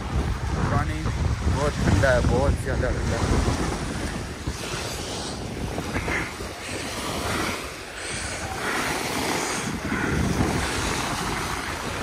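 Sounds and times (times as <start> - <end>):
small waves breaking on shore: 0.0 - 12.0
wind buffeting microphone: 0.0 - 12.0.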